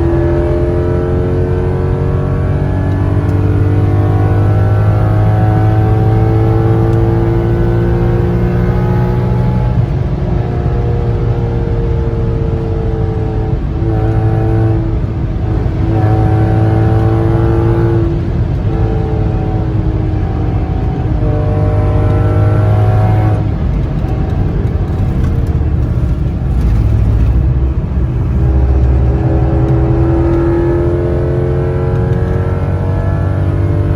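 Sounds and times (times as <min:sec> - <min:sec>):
deep engine exhaust note: 0:00.0 - 0:33.9.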